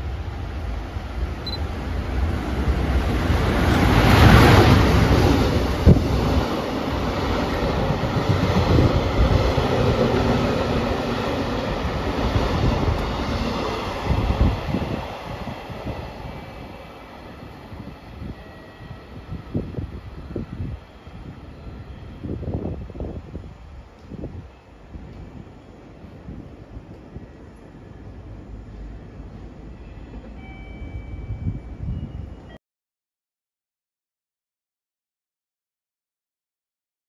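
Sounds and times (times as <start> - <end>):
electric locomotive passing: 0.0 - 32.6.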